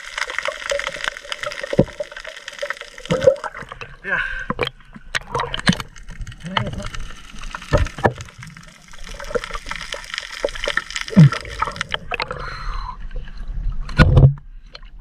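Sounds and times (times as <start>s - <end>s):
rush of water: 0.0s - 12.7s
underwater clicks and gurgles: 0.0s - 15.0s.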